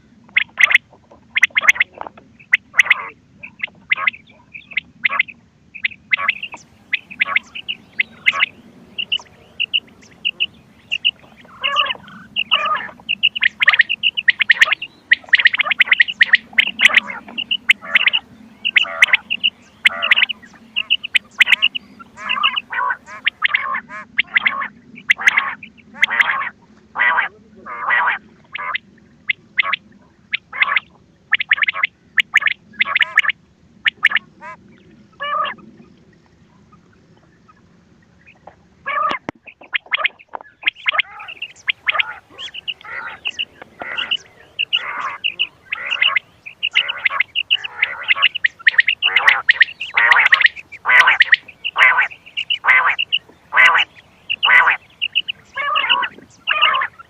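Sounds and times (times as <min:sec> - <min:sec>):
low steady hum: 0:00.0 - 0:57.0
quail calls: 0:00.3 - 0:35.8, 0:38.2 - 0:57.0.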